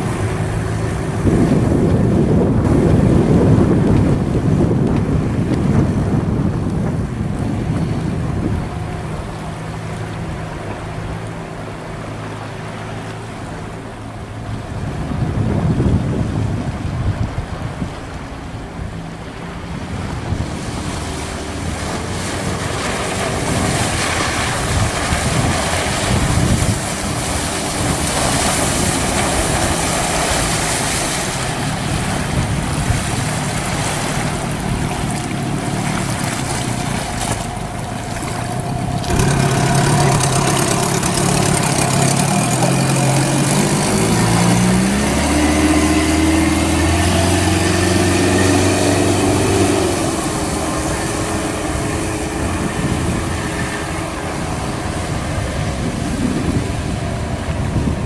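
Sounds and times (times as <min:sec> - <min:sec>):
wind on microphone: 0:00.0 - 0:11.3, 0:13.7 - 0:58.0
outboard motor running: 0:00.0 - 0:58.0
rushing water: 0:00.0 - 0:58.0.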